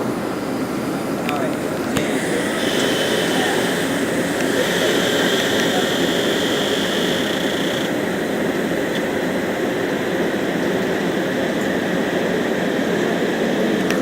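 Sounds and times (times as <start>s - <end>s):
high whine: 0.0s - 14.0s
train running past: 0.0s - 14.0s.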